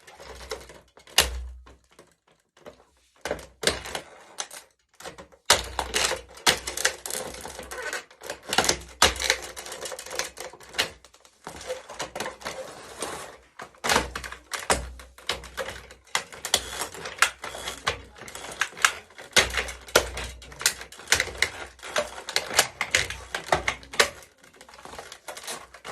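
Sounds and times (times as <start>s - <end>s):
plastic cracking and snapping: 0.0s - 25.9s.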